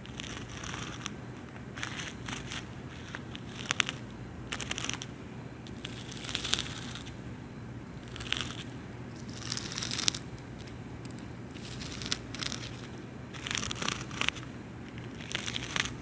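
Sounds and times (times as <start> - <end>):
insects gnawing with dry crackles: 0.0 - 7.2, 8.0 - 16.0.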